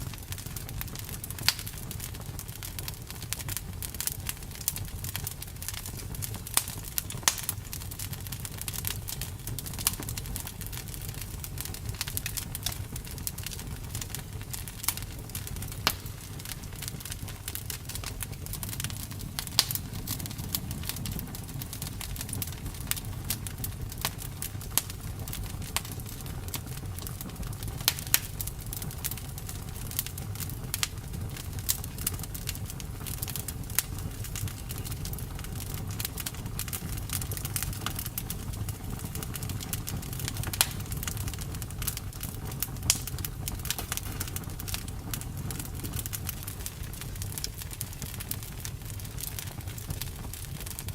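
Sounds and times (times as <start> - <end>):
campfire crackling: 0.0 - 50.9
fire popping: 0.0 - 50.9
low rush of burning: 0.0 - 50.9.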